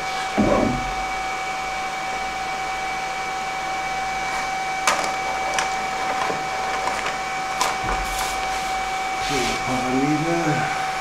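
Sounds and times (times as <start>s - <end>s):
spindle high whine: 0.0s - 11.0s.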